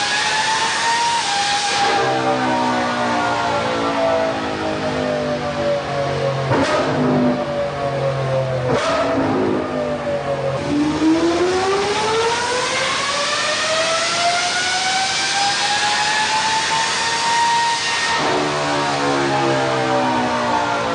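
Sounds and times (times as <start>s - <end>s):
car engine revving on dyno: 0.0s - 20.9s.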